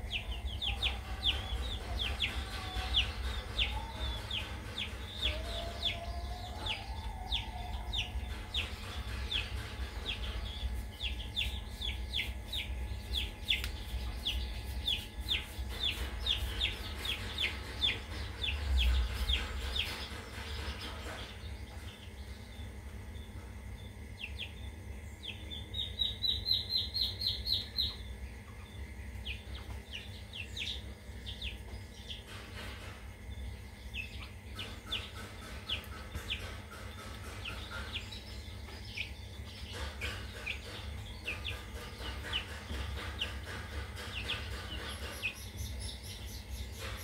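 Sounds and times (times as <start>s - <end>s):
birds chirping: 0.0s - 47.0s
low steady hum: 0.0s - 47.0s.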